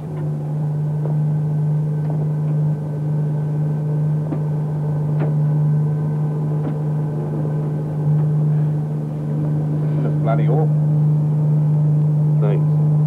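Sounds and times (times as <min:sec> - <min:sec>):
low machinery drone: 0:00.0 - 0:13.0.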